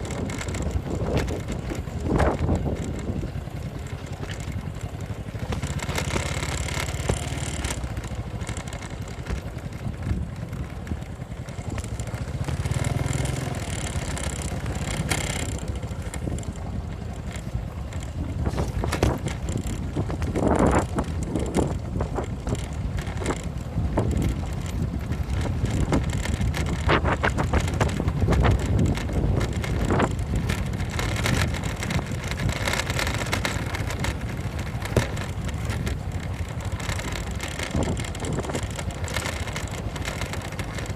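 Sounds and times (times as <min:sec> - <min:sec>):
knocks and rattles: 0:00.0 - 0:40.9
motorcycle engine running: 0:00.0 - 0:40.9
wind noise on microphone: 0:00.0 - 0:40.9.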